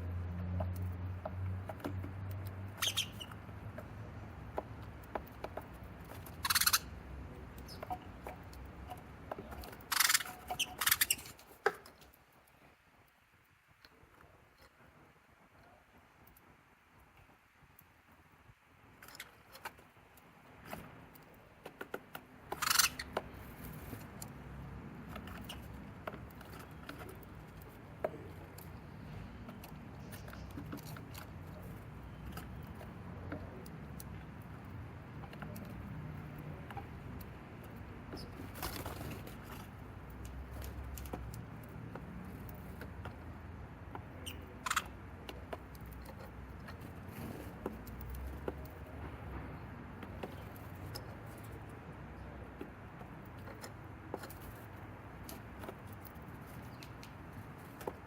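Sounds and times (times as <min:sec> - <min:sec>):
birds' feet and beaks tapping wood: 0:00.1 - 0:12.6, 0:18.9 - 0:58.0.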